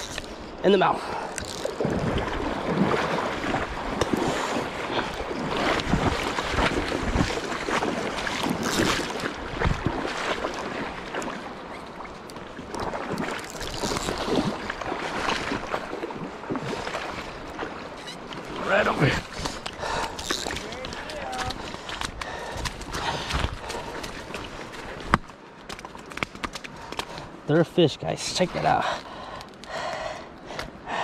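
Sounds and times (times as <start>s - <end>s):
water splashing and churning: 0.0s - 31.0s.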